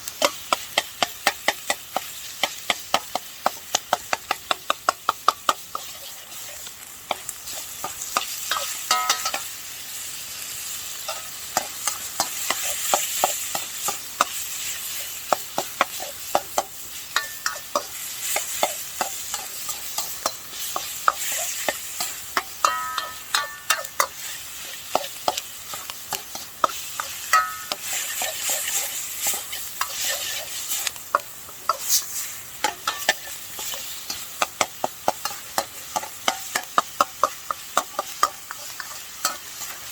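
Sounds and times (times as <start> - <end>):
food sizzling: 0.0 - 39.9
utensil scraping a wok: 0.0 - 39.9
wok ringing: 0.0 - 39.9.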